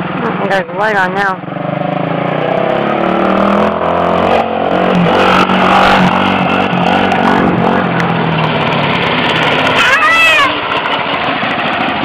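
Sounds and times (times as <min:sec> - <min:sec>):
small engines buzzing past: 0:00.1 - 0:12.0.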